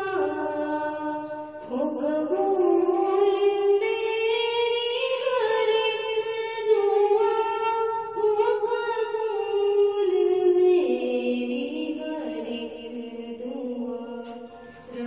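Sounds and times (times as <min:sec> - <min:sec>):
girl singing a hymn: 0:00.0 - 0:15.0.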